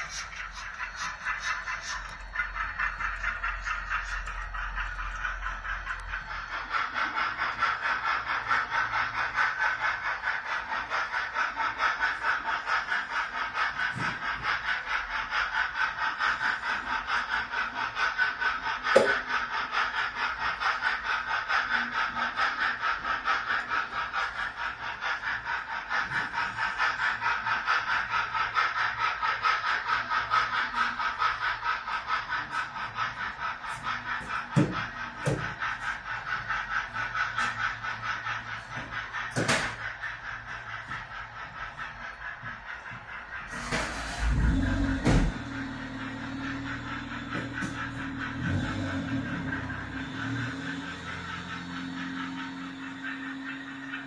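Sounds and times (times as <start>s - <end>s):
model steam locomotive chuffing: 0.0s - 54.0s.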